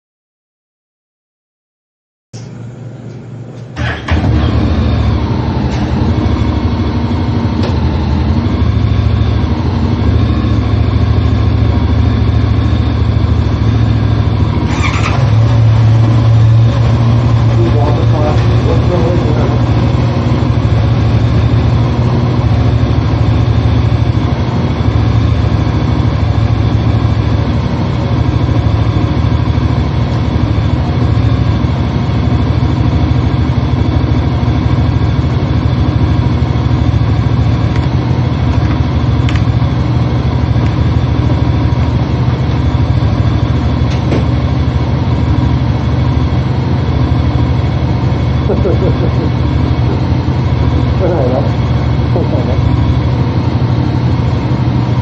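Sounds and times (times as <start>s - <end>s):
motorcycle engine running: 3.2s - 55.0s.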